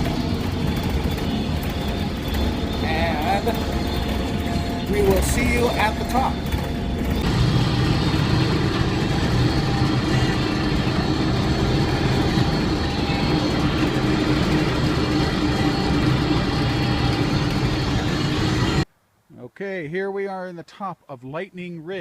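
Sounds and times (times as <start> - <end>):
snowcat engine and tracks rumbling: 0.0 - 18.9.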